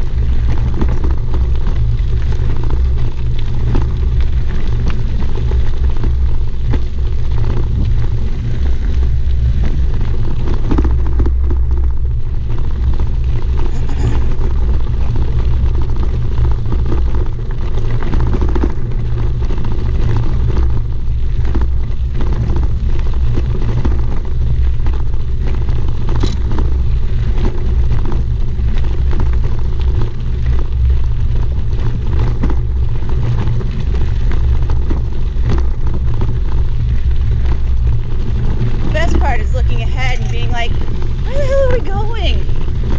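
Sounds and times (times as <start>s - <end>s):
bike rattling: 0.0s - 42.9s
wind rumbling on microphone: 0.0s - 42.9s.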